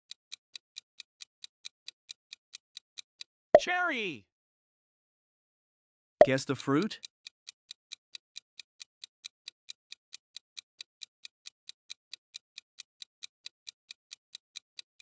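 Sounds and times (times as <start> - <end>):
timer ticking: 0.1 - 4.2, 6.2 - 15.0.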